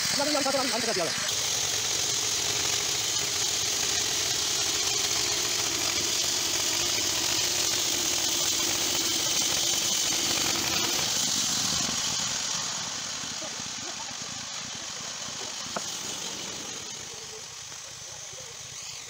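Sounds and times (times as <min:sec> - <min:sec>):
band saw blade hissing: 0:00.0 - 0:19.0
small engine running: 0:00.0 - 0:19.0.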